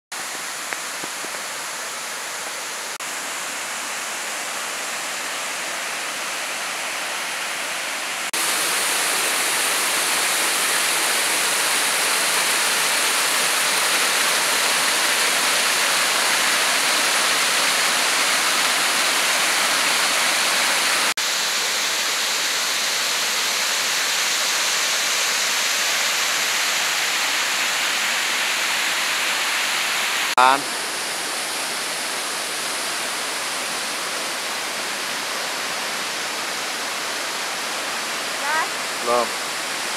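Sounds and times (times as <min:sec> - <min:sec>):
waterfall rushing: 0:00.1 - 0:39.9.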